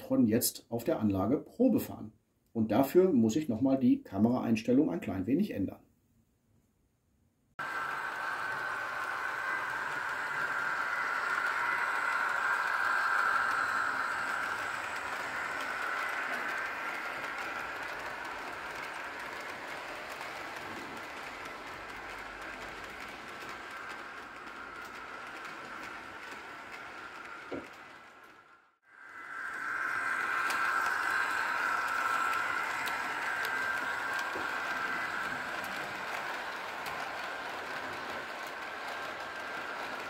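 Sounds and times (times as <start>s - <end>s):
model train running: 7.6s - 40.0s.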